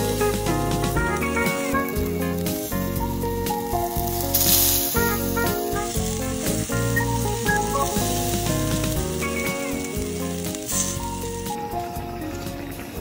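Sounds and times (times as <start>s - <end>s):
background music: 0.0s - 13.0s
meat sizzling on grill: 0.0s - 13.0s.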